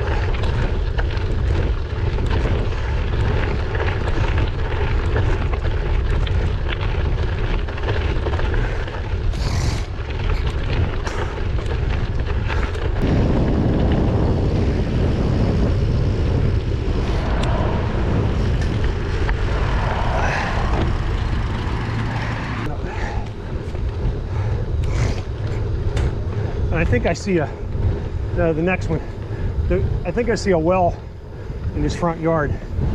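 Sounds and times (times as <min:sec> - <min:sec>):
bike tyre noise: 0:00.0 - 0:32.9
small clicks from road surface: 0:00.0 - 0:32.9
wind buffeting microphone: 0:00.0 - 0:32.9.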